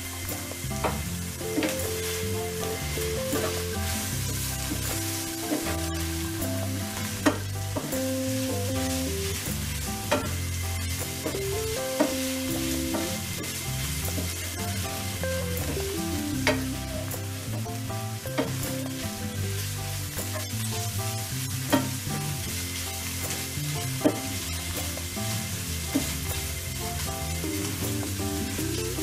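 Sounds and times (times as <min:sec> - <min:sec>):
background music: 0:00.0 - 0:29.0
meat sizzling in frying pan: 0:00.0 - 0:29.0.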